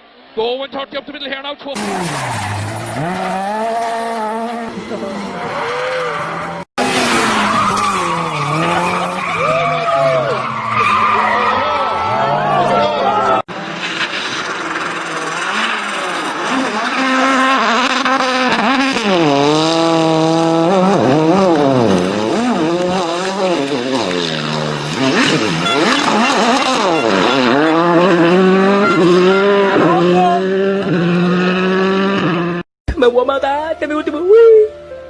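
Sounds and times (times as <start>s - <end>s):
rally car engine revving: 1.8s - 32.7s.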